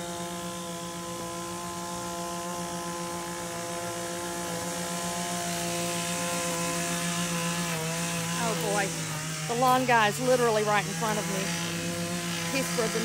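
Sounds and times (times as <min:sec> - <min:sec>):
lawn mower engine droning: 0:00.0 - 0:13.0.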